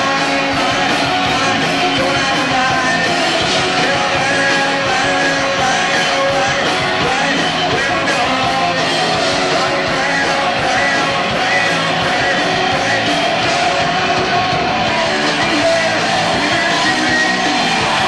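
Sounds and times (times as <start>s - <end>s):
live punk rock band: 0.0s - 18.0s
person singing: 0.0s - 18.0s.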